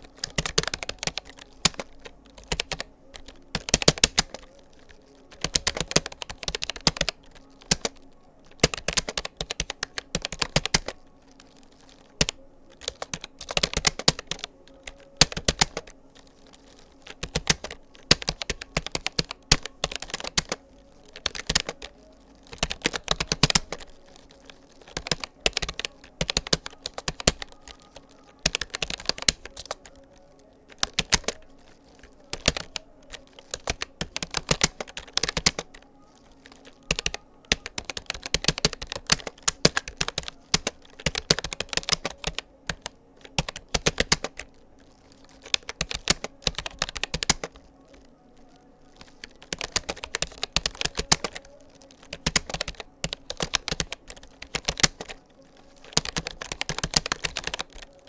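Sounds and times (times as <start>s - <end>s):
keyboard typing: 0.0s - 58.0s.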